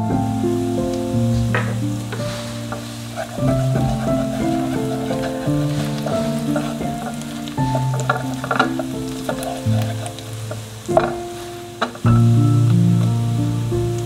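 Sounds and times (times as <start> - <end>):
food sizzling in a pan: 0.0 - 14.0
soft instrumental music: 0.0 - 14.0.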